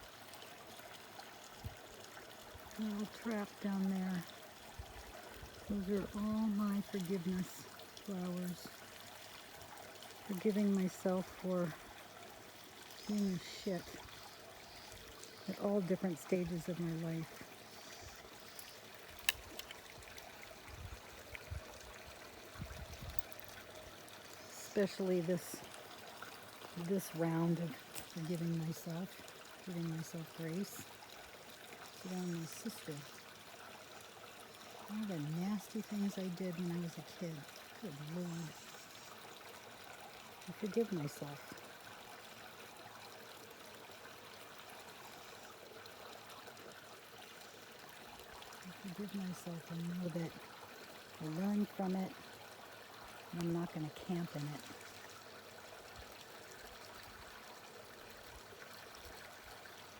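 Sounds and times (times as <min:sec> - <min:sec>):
brook babbling: 0:00.0 - 0:59.9.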